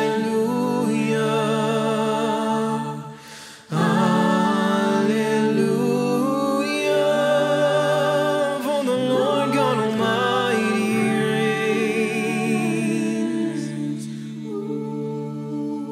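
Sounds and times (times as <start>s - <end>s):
singing over sustained chords: 0.0s - 15.9s.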